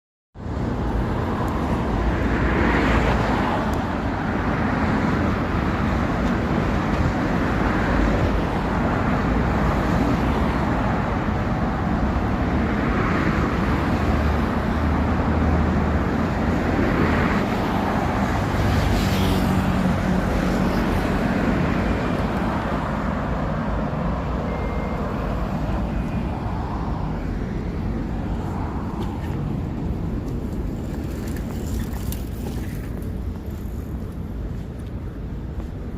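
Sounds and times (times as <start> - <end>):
road noise: 0.4 - 35.9
vehicles passing: 0.4 - 35.9.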